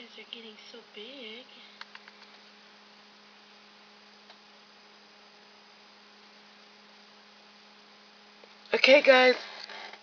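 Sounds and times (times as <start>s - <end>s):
faint electrical hum: 0.0s - 10.0s
soft hiss: 0.0s - 10.0s.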